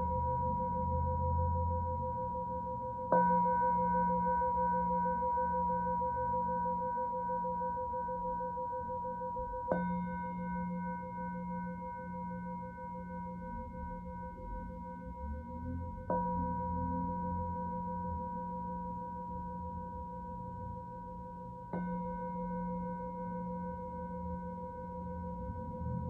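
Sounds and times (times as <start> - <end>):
singing bowl ringing: 0.0 - 26.0.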